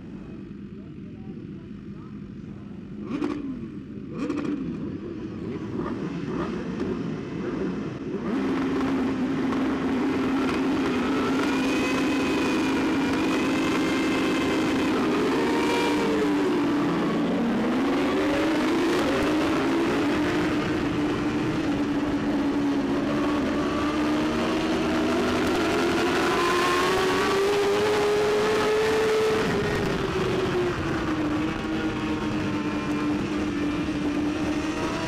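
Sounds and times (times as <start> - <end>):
other motorcycle engines revving: 2.3 - 35.0
motorcycle engine revving: 2.9 - 35.0.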